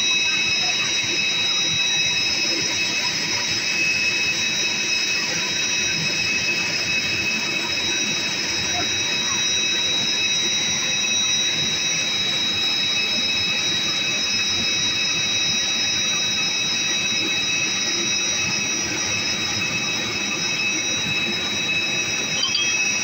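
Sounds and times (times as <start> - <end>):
jet turbine whine: 0.0 - 23.0.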